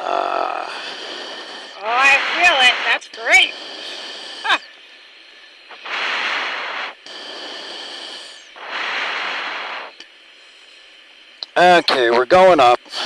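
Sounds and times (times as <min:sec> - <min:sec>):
heavy breaths through oxygen mask: 0:00.0 - 0:11.3
steady cockpit hiss: 0:00.0 - 0:13.0.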